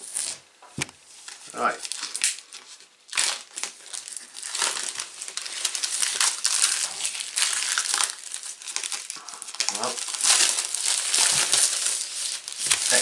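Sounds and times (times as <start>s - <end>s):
shrink-wrap crackling: 1.2s - 13.0s.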